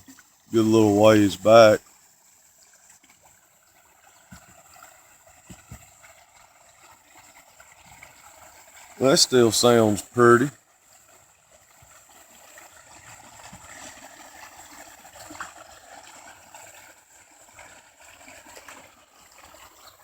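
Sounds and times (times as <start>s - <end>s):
river water trickling: 0.0s - 20.0s.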